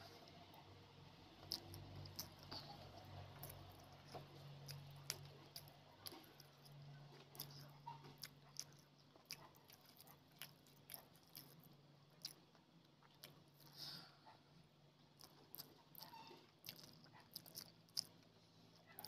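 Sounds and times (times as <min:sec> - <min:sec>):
low steady hum: 0:00.0 - 0:19.0
wet chewing: 0:01.4 - 0:14.4, 0:15.1 - 0:19.0.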